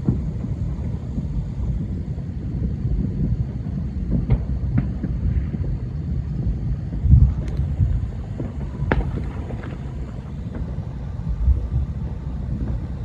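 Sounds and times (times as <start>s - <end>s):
distant fireworks rumble: 0.0s - 13.0s
sharp firework pops: 0.0s - 13.0s.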